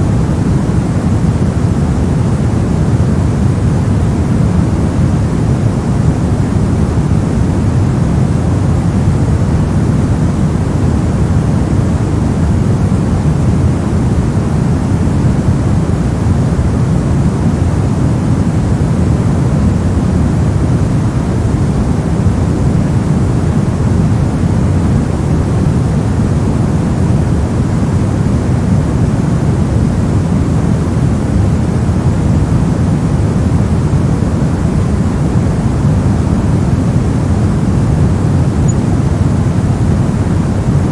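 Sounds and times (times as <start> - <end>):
white noise: 0.0 - 40.9.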